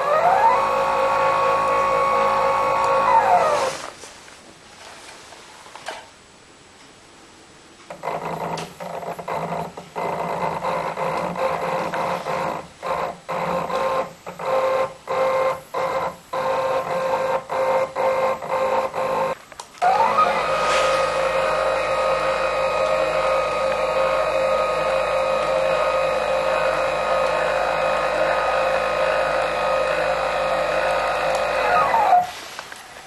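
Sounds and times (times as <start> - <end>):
stepper motors whining: 0.0 - 3.9, 7.9 - 33.0.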